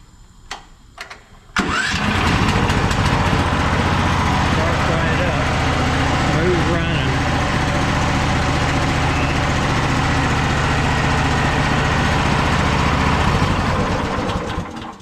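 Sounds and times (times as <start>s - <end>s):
gasoline engine running: 1.6s - 15.0s.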